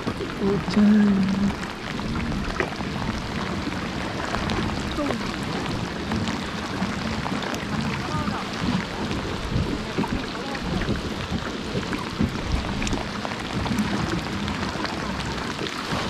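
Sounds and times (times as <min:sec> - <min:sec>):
low rumble: 0:00.0 - 0:16.0
rain falling on water: 0:00.0 - 0:16.0.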